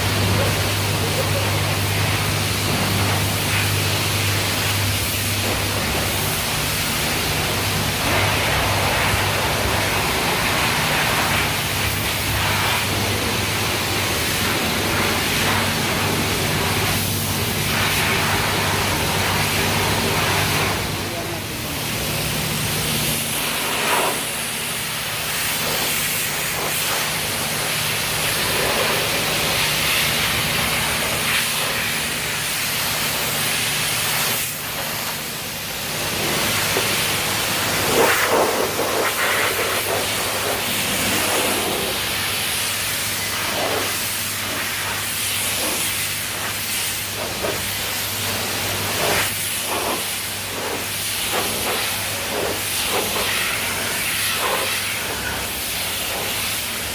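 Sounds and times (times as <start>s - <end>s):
pressure wand spraying water: 0.0s - 56.9s.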